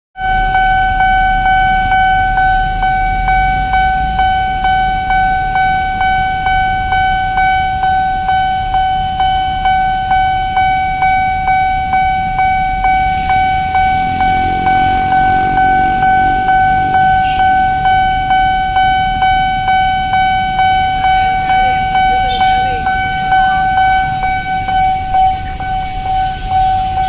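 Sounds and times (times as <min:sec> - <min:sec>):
level crossing bell ringing: 0:00.2 - 0:27.0.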